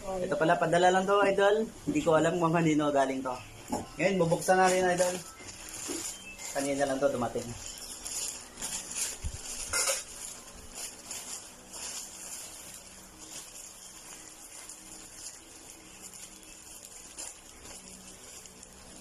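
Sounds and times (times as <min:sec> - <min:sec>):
packaging rustling and crinkling: 0:03.4 - 0:19.0.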